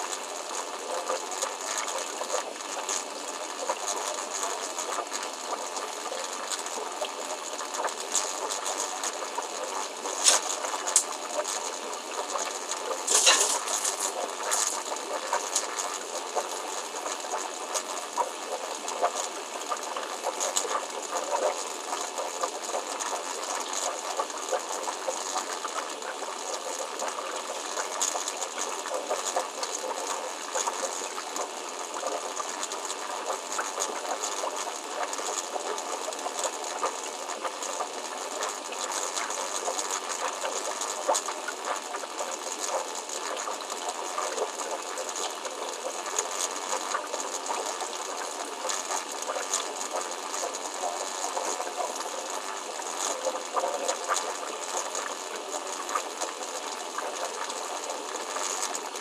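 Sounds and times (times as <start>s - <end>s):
water crackling and ticking: 0.0s - 59.0s.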